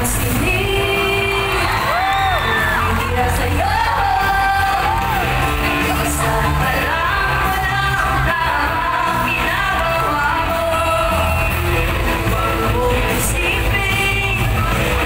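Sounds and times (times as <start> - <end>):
pop music with heavy bass: 0.0 - 15.0
woman singing into microphone: 0.0 - 15.0.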